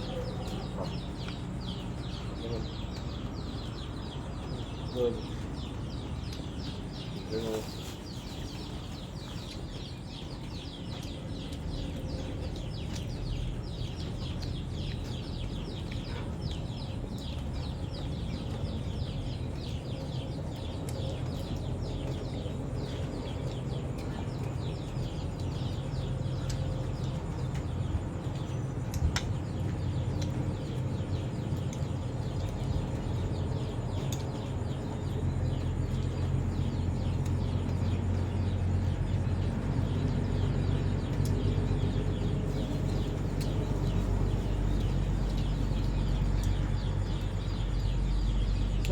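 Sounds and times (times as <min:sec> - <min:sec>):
small birds chirping: 0:00.0 - 0:48.9
low rumble: 0:09.5 - 0:48.9.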